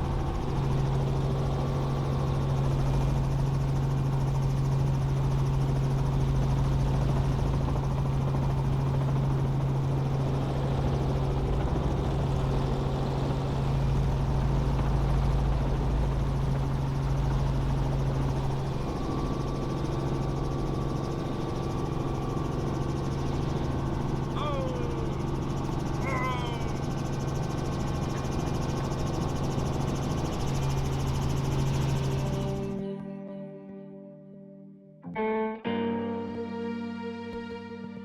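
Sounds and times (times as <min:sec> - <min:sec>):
helicopter engine and rotor drone: 0:00.0 - 0:32.8.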